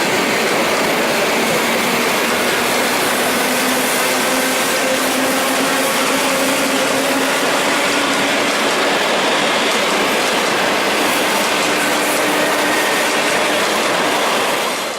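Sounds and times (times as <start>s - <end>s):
train wheels rolling on track: 0.0s - 14.9s.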